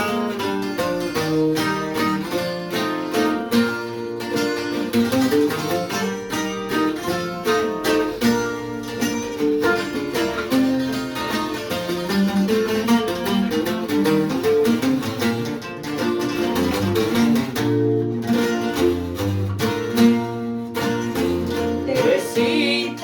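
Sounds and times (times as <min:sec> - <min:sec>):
guitar playing lead melody: 0:00.0 - 0:23.0
strummed steel-string guitar rhythm: 0:00.0 - 0:23.0.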